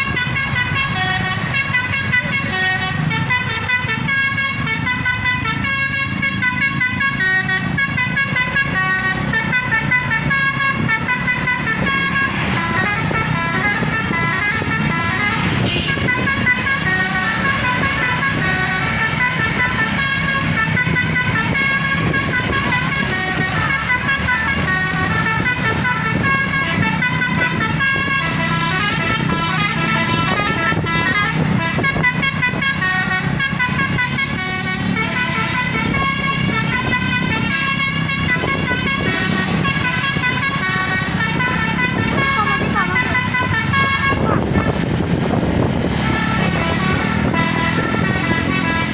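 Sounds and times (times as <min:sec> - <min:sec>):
musical bus horn melody: 0:00.0 - 0:48.9.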